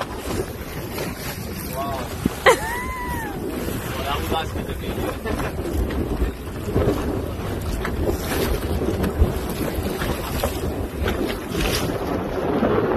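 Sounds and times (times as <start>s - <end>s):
choppy water splashing: 0.0s - 12.9s
wind buffeting microphone: 0.0s - 12.9s.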